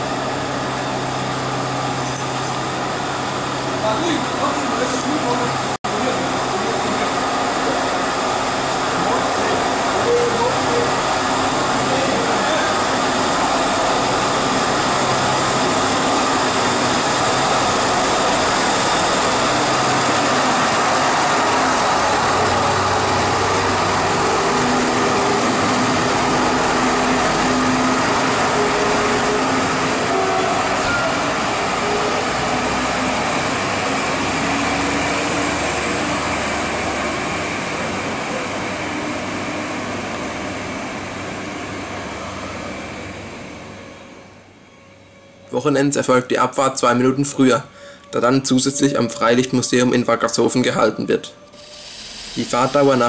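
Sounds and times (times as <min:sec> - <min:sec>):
diesel railcar engine running: 0:00.0 - 0:45.5, 0:51.2 - 0:53.0.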